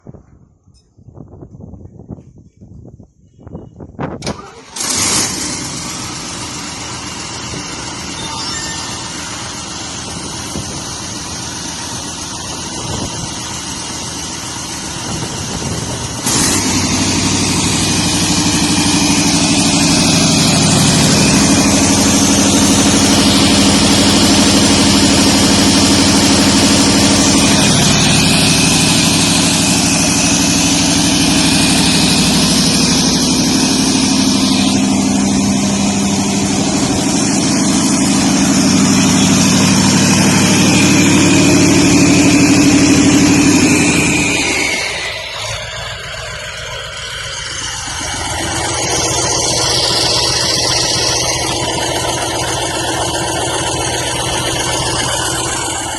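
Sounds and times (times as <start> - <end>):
diesel engine running: 4.2 - 55.9.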